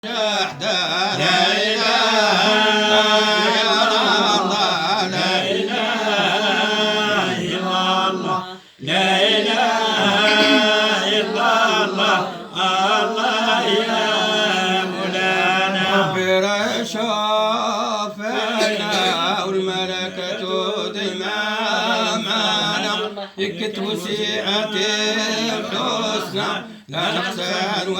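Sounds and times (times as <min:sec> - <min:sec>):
man chanting religious verses: 0:00.1 - 0:11.5, 0:12.6 - 0:27.9.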